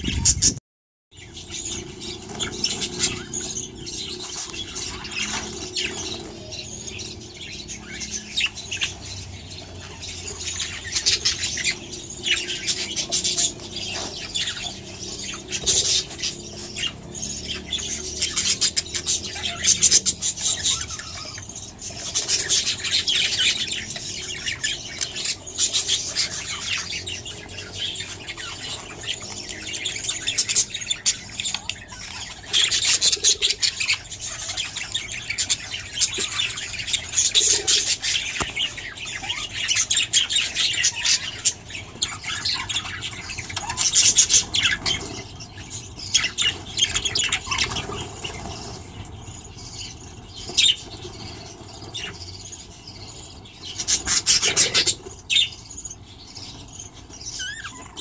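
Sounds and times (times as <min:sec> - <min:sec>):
budgerigars chattering and warbling: 0:00.0 - 0:00.6, 0:01.2 - 0:58.0.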